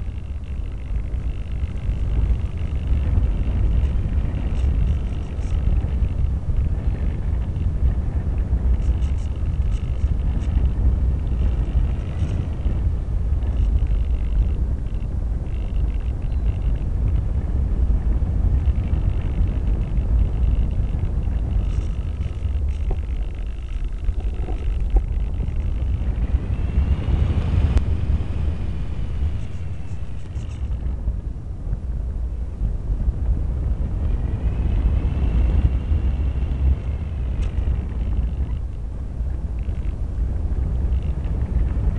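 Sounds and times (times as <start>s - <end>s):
electric motor and propeller hum: 0.0s - 41.9s
whine rising and falling: 0.0s - 41.9s
wind rushing over microphone: 0.0s - 41.9s.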